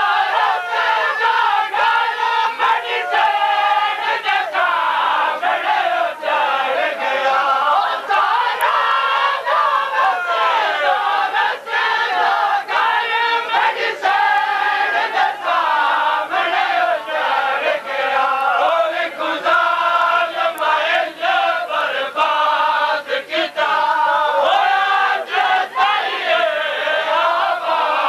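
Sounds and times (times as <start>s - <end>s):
men chanting together: 0.0s - 28.0s.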